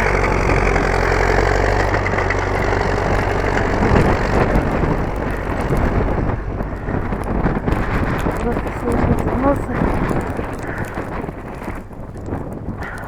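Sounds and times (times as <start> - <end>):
machinery engine low hum: 0.0 - 13.0.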